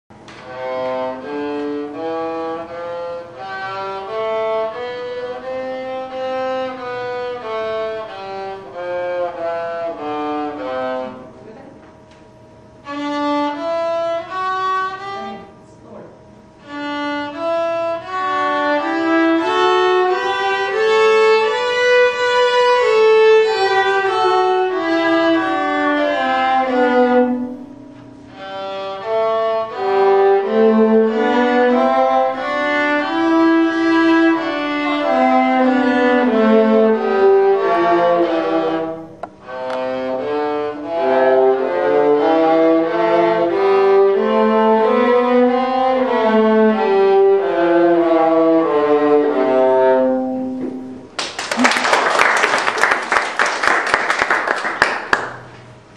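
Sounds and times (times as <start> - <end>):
bowed viola melody: 0.3 - 11.6, 12.6 - 51.1
second bowed string instrument: 0.3 - 11.6, 12.6 - 51.2.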